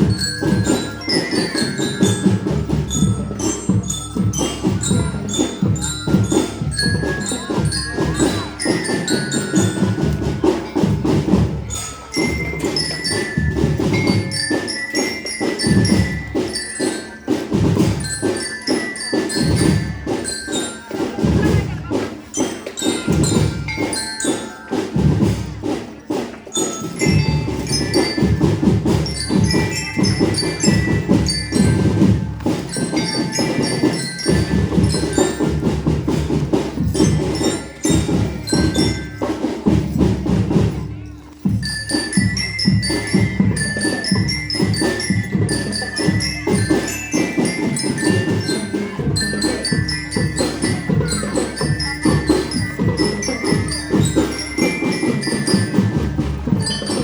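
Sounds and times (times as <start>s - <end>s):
glockenspiel melody: 0.0s - 57.0s
snare and bass drum beats: 0.0s - 57.0s.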